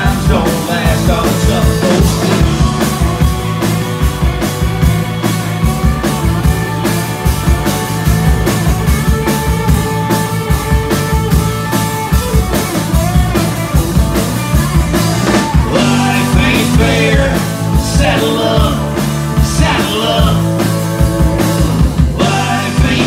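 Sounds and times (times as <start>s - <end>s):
drum kit beat: 0.0s - 23.0s
keyboard: 0.0s - 23.0s.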